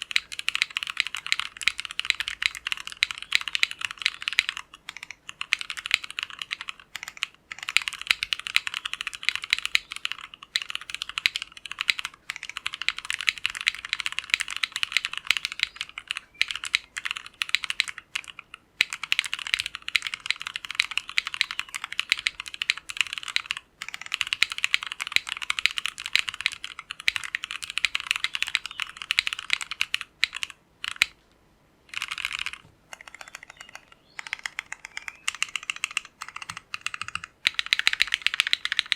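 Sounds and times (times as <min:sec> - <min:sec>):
mechanical keyboard typing: 0:00.0 - 0:31.2, 0:31.9 - 0:38.9.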